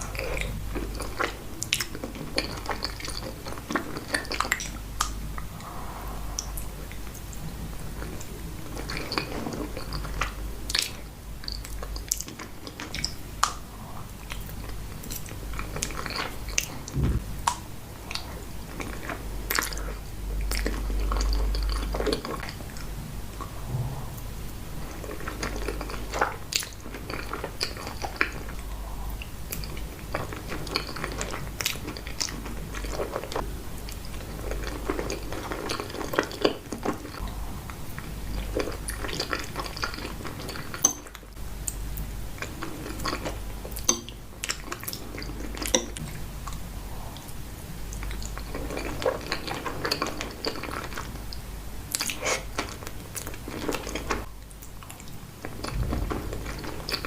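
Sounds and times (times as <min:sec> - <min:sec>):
chewing pasta: 0:00.0 - 0:16.9, 0:18.0 - 0:23.6, 0:24.8 - 0:57.0.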